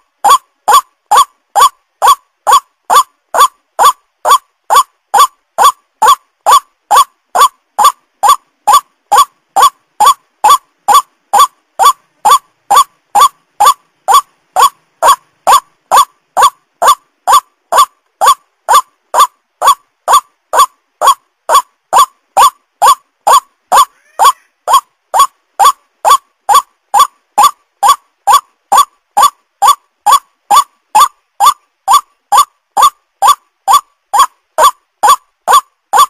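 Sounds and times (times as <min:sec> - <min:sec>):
waterhen calling: 0:00.2 - 0:36.0.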